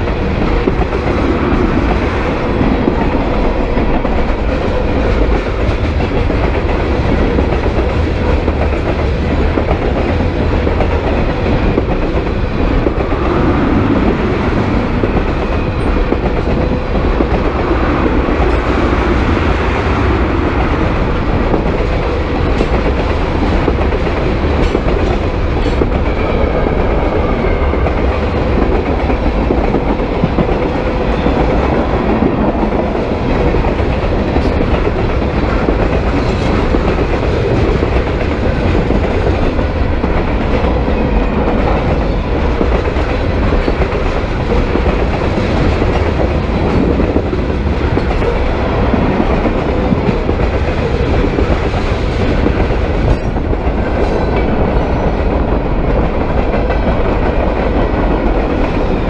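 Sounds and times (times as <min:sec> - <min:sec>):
freight train rolling past: 0:00.0 - 0:59.0
steel wheels clicking over rail joints: 0:00.0 - 0:59.0.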